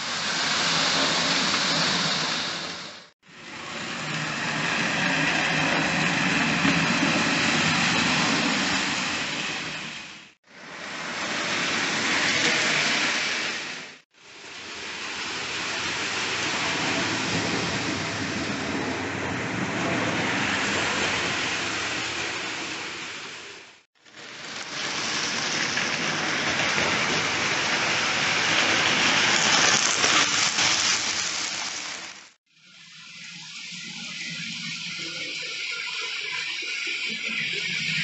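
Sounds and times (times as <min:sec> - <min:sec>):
model trains running on track: 0:00.0 - 0:38.0.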